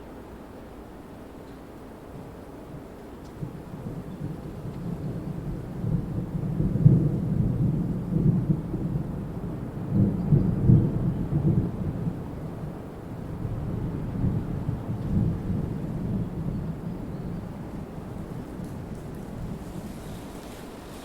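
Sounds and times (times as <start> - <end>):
wind blowing in gusts: 0.0 - 21.0.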